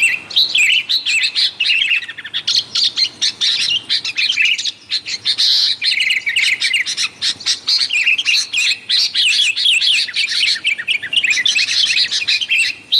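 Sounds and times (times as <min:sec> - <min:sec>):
birds chirping and warbling: 0:00.0 - 0:12.9.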